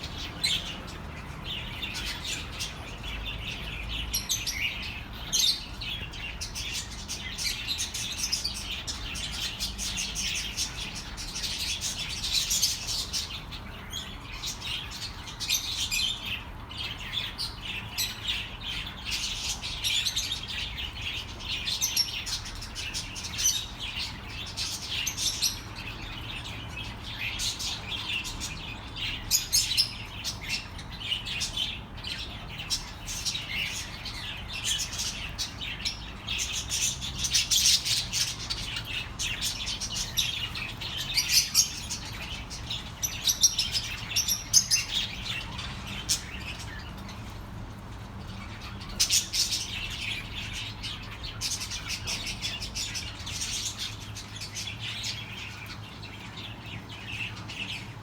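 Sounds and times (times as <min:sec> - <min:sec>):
budgerigars chattering and warbling: 0:00.0 - 0:58.0.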